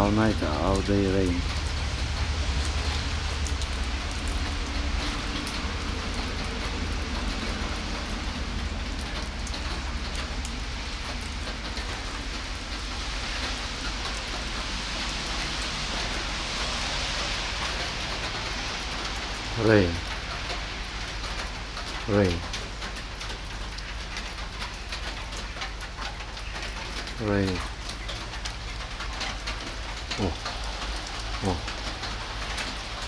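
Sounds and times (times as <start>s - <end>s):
rain on wet asphalt: 0.0s - 33.0s.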